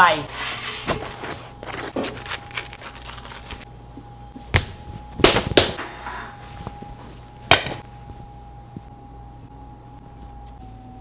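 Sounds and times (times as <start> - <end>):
faint steady hum: 1.0 - 11.0.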